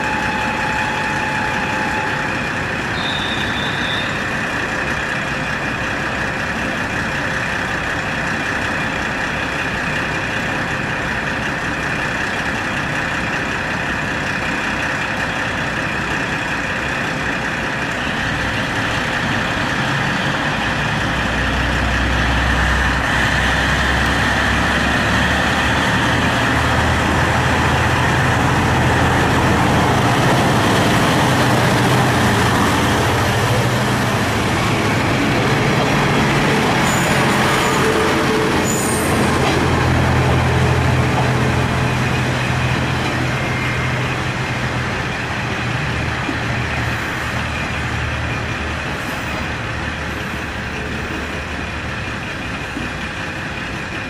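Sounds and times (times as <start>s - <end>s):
diesel railcar engine: 0.0s - 54.0s.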